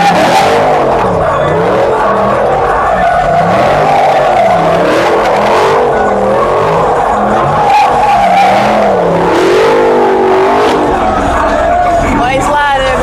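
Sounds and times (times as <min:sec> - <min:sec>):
car engine revving: 0:00.0 - 0:13.0
car tyres squealing: 0:00.0 - 0:13.0.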